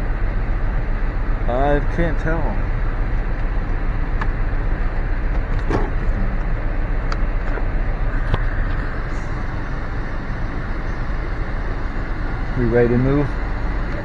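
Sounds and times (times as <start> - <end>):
car engine rumble and hiss: 0.0 - 14.0.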